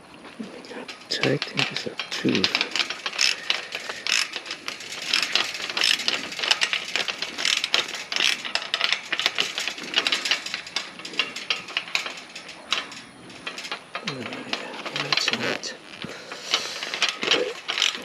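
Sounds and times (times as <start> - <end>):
ratchet wrench clicking: 1.2 - 18.0.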